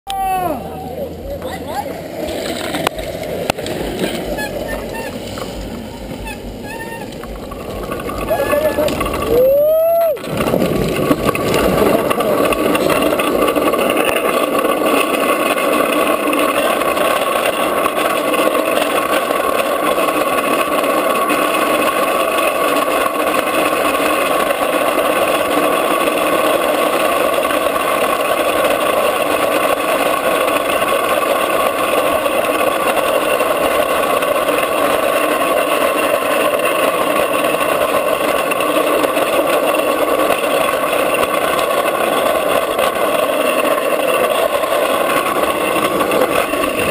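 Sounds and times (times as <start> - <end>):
hard wheels roaring on asphalt: 0.0 - 46.9.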